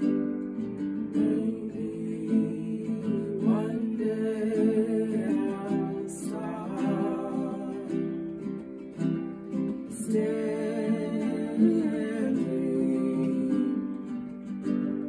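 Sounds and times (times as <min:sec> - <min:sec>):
acoustic guitar strumming: 0:00.0 - 0:15.0
person singing wordless ahh: 0:00.0 - 0:15.0
ukulele strumming: 0:00.0 - 0:15.0.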